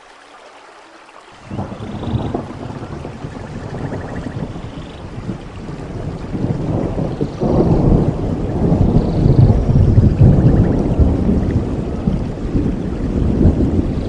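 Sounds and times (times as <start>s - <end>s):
steady rain: 0.0s - 14.0s
rolling thunder: 1.4s - 14.0s.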